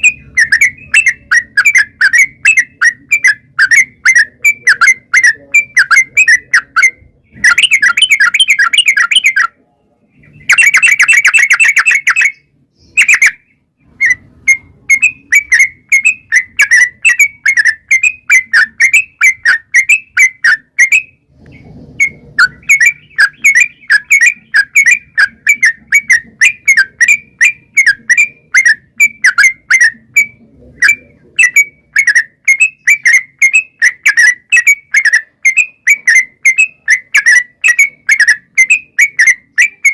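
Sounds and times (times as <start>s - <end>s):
bulbul chirps: 0.0s - 39.9s
bulbul rolling song: 0.0s - 39.9s.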